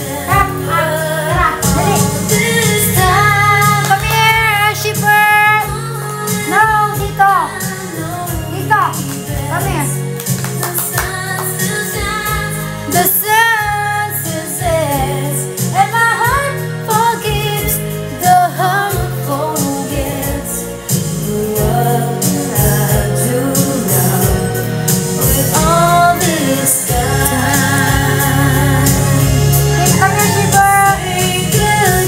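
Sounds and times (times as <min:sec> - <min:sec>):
instrumental backing track with bass: 0:00.0 - 0:32.0
woman singing a slow song: 0:00.0 - 0:32.0.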